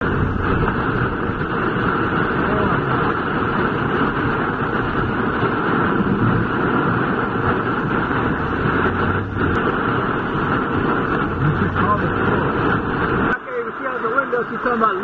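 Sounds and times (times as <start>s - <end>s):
car driving on flooded road: 0.0s - 15.0s
heavy rain beating on car: 0.0s - 15.0s.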